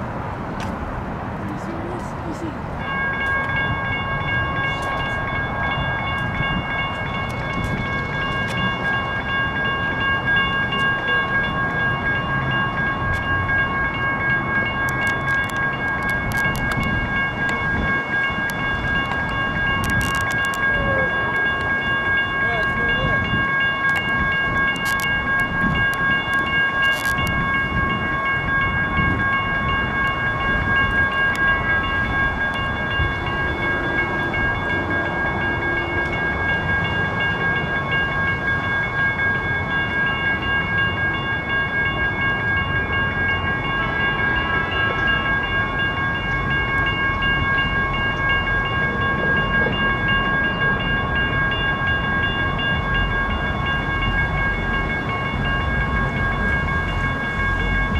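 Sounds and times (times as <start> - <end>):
railroad crossing bell ringing: 0.0 - 57.9.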